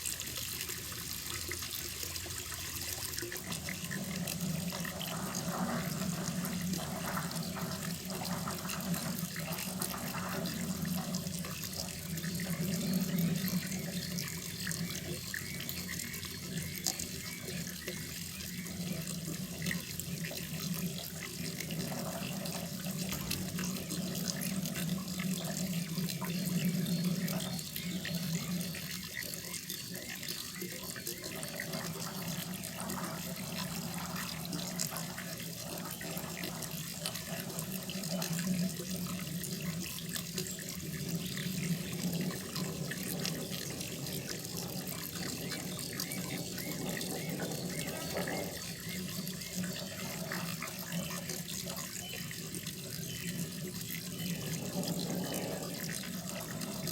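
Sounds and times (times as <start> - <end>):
water pouring into pond: 0.0 - 56.9.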